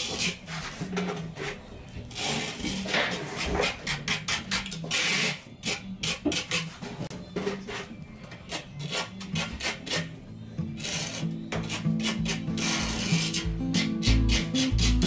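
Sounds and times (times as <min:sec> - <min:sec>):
trowel scraping mortar: 0:00.0 - 0:15.0.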